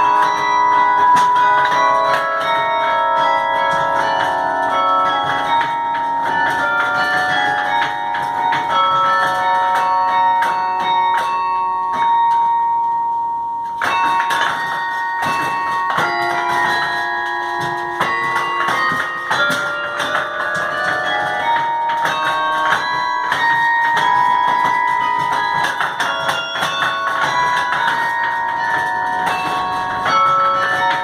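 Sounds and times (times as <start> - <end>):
carillon bells playing melody: 0.0 - 31.0.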